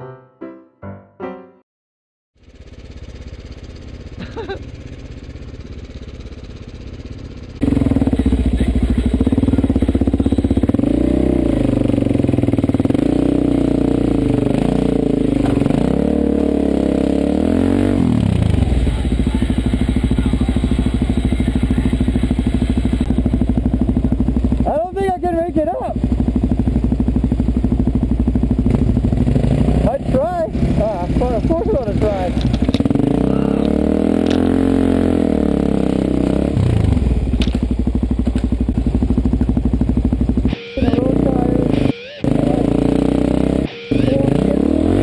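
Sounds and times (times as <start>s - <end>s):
motorcycle engine revving: 2.4s - 45.0s.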